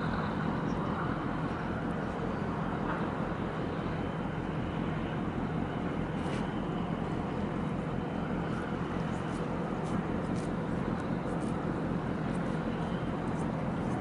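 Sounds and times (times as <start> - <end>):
ship engine low rumble: 0.0 - 14.0.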